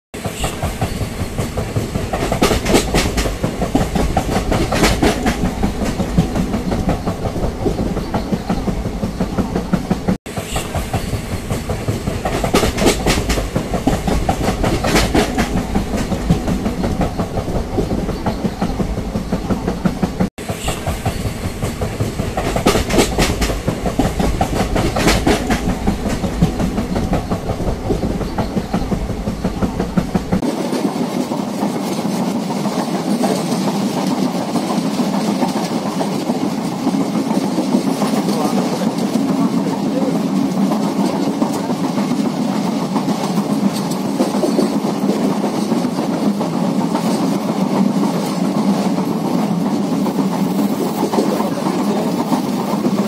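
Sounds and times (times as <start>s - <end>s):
train wheels clattering: 0.2s - 53.0s.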